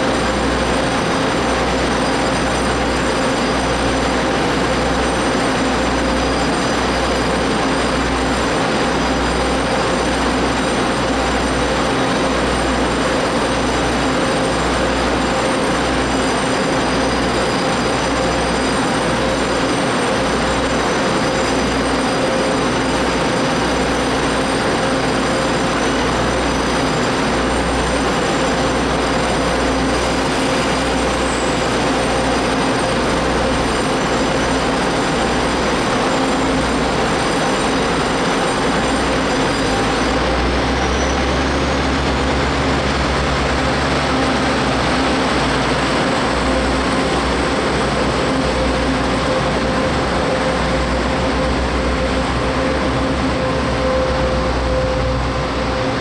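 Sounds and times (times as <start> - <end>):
diesel railcar engines idling: 0.0 - 56.0.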